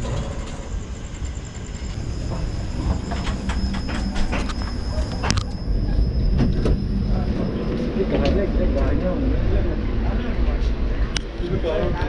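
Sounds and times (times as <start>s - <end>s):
thin high whine: 0.0s - 10.2s
train running gear rumble: 0.0s - 12.0s.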